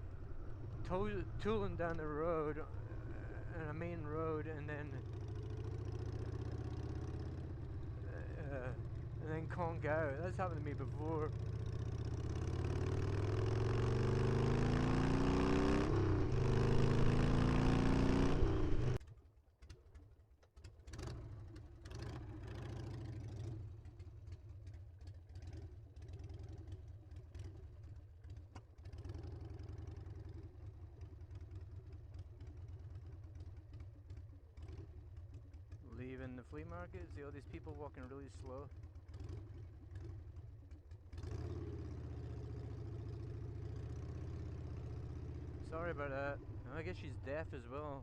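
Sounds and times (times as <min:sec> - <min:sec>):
motorcycle engine accelerating: 0:00.0 - 0:19.0, 0:20.9 - 0:48.0.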